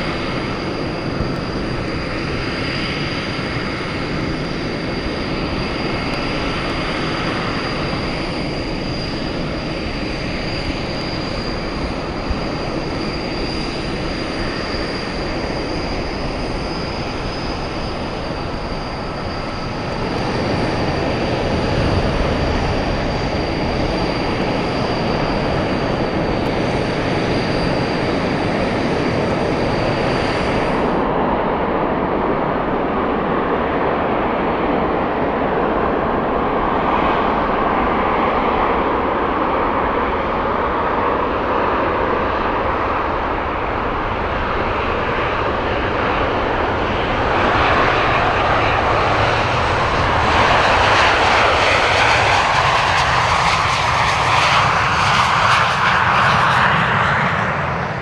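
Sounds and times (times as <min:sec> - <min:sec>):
jet engines running: 0:00.0 - 0:58.0
steady high whine: 0:00.0 - 0:58.0.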